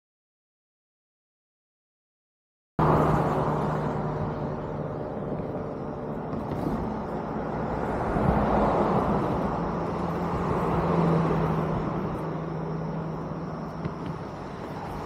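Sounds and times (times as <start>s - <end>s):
vehicle driving past: 2.8s - 15.0s.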